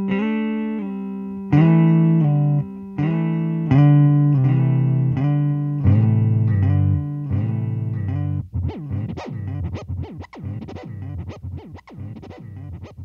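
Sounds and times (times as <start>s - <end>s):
electric guitar with delay: 0.0s - 13.0s.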